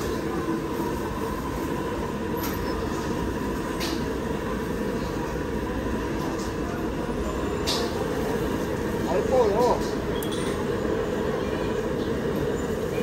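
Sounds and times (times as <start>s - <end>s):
gas stove burners roaring: 0.0s - 13.0s.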